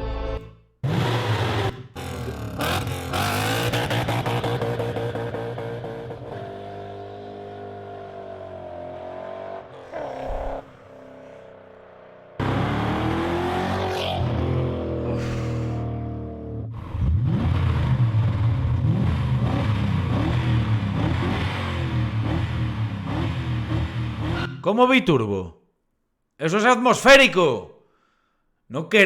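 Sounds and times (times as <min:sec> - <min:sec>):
car engines revving: 0:00.8 - 0:24.6.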